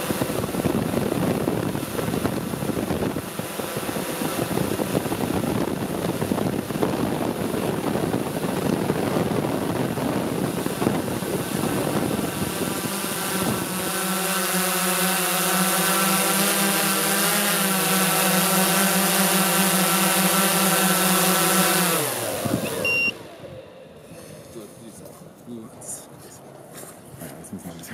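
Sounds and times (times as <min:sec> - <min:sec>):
drone motors and propellers: 0:00.0 - 0:27.9.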